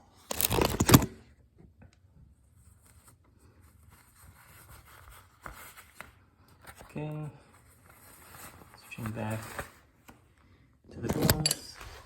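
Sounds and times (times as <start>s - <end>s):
work gloves rustling: 2.3s - 12.0s.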